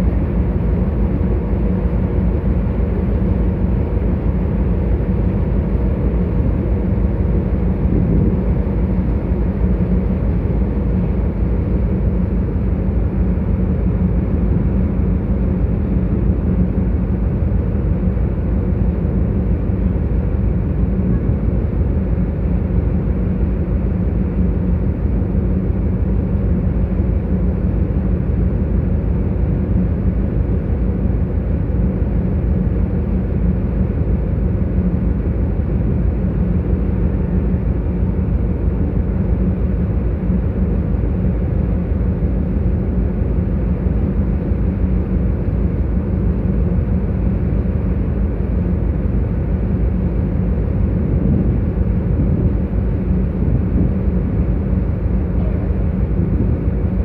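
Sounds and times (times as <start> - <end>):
ship engines droning: 0.0 - 57.0
water rushing along hull: 0.0 - 57.0.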